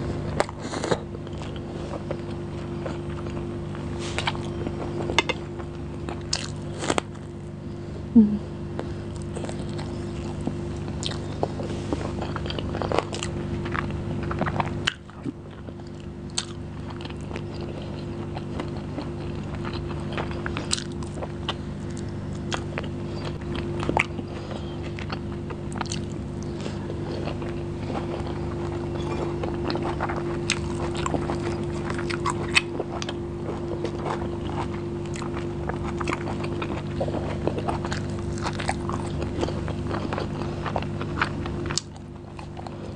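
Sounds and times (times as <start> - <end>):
steady low hum: 0.0 - 42.9
person chewing and biting: 0.1 - 7.8, 8.6 - 42.9.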